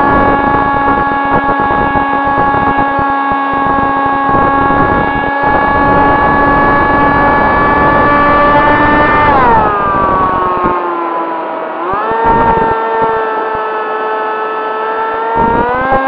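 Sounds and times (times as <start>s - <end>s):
wind rumble on microphone: 0.0s - 14.0s, 15.2s - 16.0s
electric motor and propeller whine: 0.0s - 16.0s.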